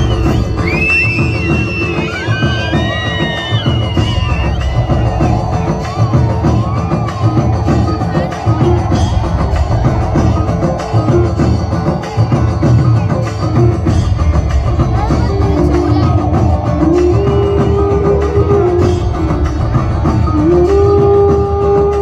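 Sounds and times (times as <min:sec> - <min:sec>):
percussion beat: 0:00.0 - 0:22.0.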